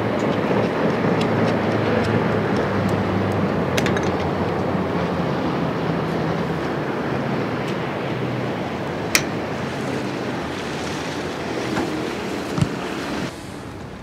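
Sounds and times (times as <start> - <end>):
boat engine droning: 0.0 - 14.0
rush of boat wake: 0.0 - 14.0.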